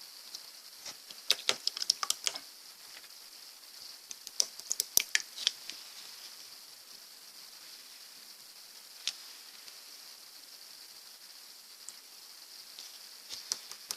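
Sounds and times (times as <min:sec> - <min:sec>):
faint hiss: 0:00.0 - 0:13.9.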